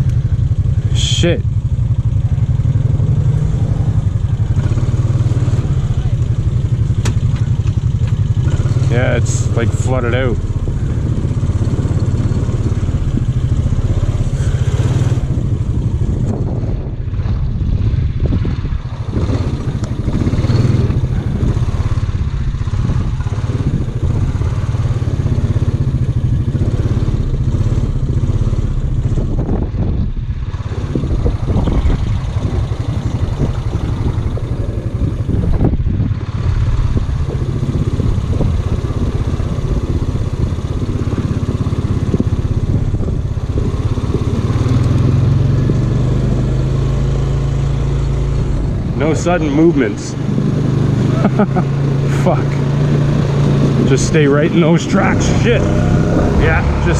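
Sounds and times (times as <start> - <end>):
atv engine running: 0.0 - 56.9
engine clatter: 0.0 - 56.9.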